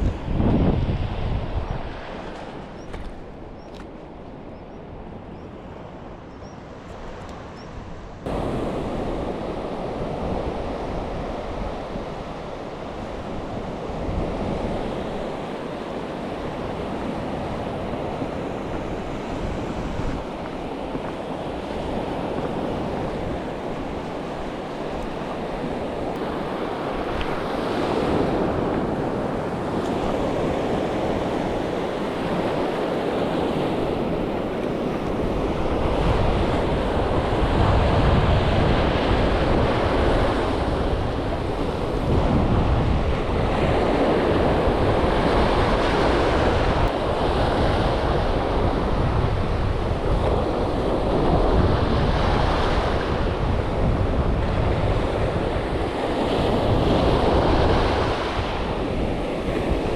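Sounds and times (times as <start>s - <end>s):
wind buffeting microphone: 0.0s - 59.9s
surf washing onto shore: 7.0s - 59.9s.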